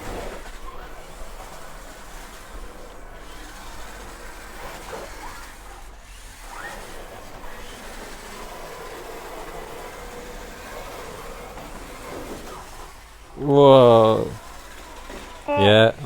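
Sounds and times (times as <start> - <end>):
remote-control car motors whining: 0.0 - 13.4, 14.4 - 15.6.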